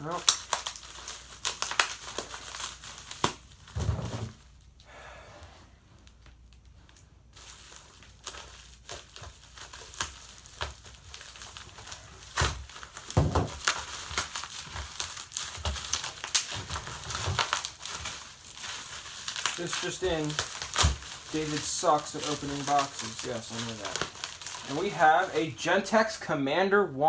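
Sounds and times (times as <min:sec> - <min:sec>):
packaging rustling and crinkling: 0:00.0 - 0:04.8, 0:06.0 - 0:26.1.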